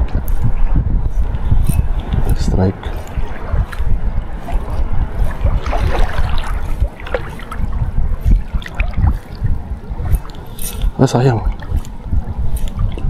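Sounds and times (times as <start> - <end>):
wind buffeting microphone: 0.0 - 13.0
water lapping: 1.1 - 13.0.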